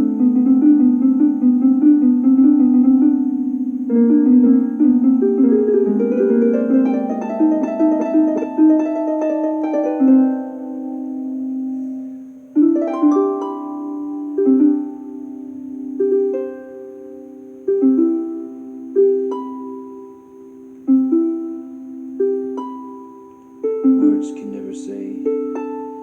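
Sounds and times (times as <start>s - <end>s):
plucked harp-like string music: 0.0s - 26.0s.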